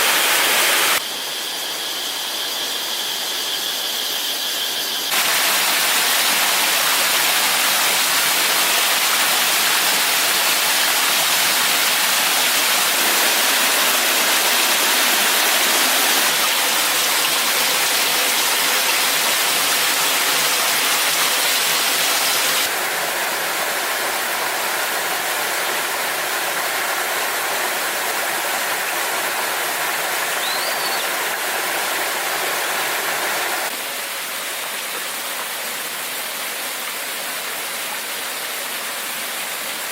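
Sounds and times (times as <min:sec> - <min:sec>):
waterfall rushing: 0:00.0 - 0:01.0, 0:05.1 - 0:39.9.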